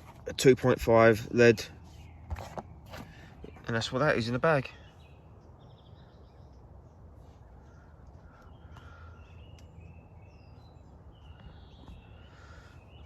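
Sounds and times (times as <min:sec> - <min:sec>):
small birds singing: 0:00.0 - 0:13.0.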